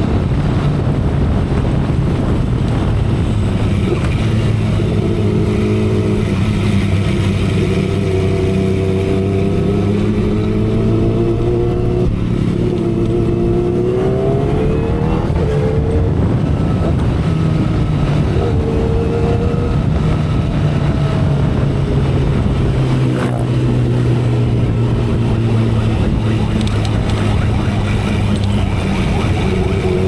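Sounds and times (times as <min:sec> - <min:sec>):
motorcycle engine at speed: 0:00.0 - 0:30.0
wind and road noise: 0:00.0 - 0:30.0.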